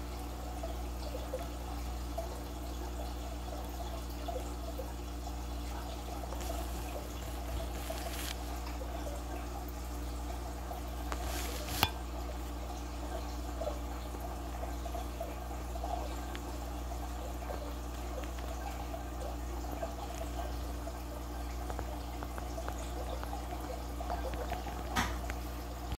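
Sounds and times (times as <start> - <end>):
aquarium filter bubbling: 0.0 - 26.0
low steady hum: 0.0 - 26.0.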